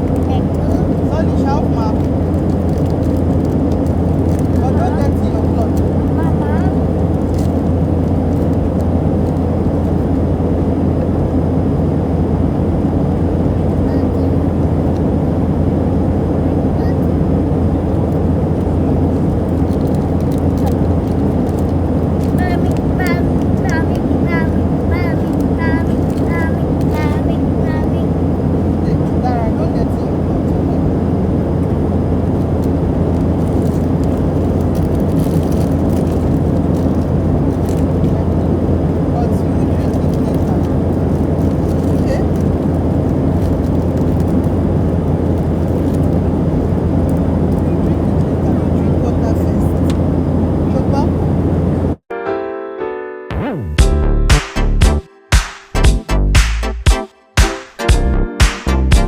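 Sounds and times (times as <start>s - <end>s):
jet cabin engine rumble: 0.0s - 52.1s.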